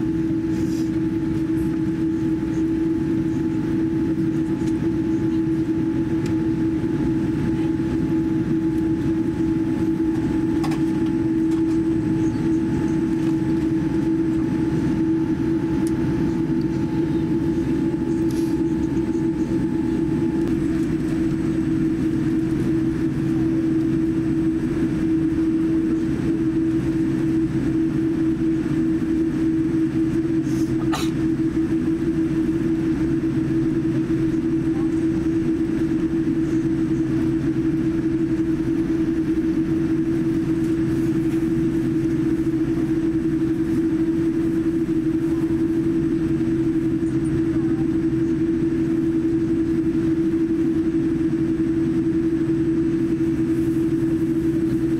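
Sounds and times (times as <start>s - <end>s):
airliner cabin hum and rumble: 0.0s - 54.9s.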